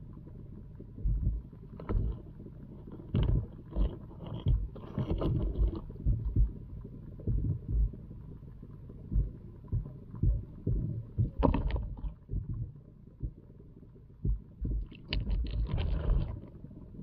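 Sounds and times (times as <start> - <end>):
crackling clatter: 0.1 - 17.0
muffled underwater thumps: 1.0 - 2.3, 3.0 - 8.2, 9.1 - 16.5.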